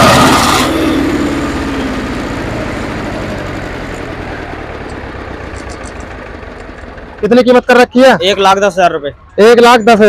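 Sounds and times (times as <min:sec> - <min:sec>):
diesel tractor engine settling to idle: 0:00.0 - 0:09.0.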